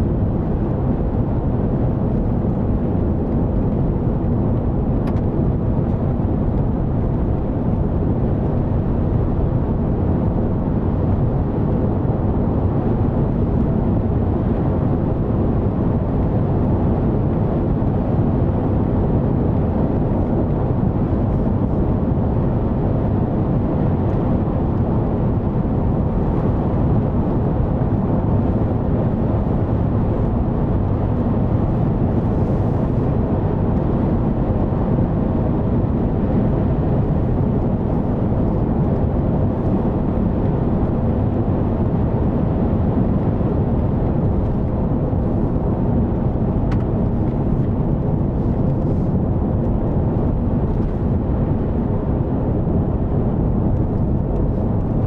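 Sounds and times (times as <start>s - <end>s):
engine rumble inside car: 0.0s - 55.0s
tyre road noise: 0.0s - 55.0s.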